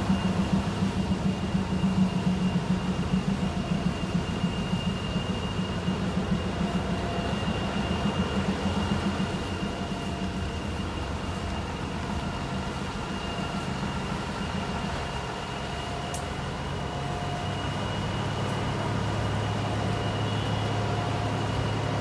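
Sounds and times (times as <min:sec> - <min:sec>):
duct cleaning machine droning: 0:00.0 - 0:22.0
thin steady whine: 0:00.0 - 0:22.0.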